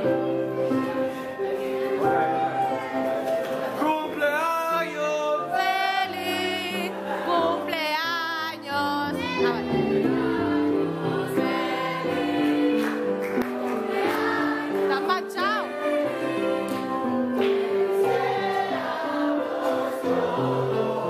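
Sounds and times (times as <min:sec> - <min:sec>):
voices singing together: 0:00.0 - 0:21.0.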